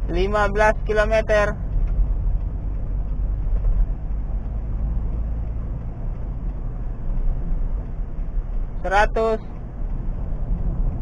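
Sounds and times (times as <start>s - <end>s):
car interior engine and road noise: 0.0s - 11.0s.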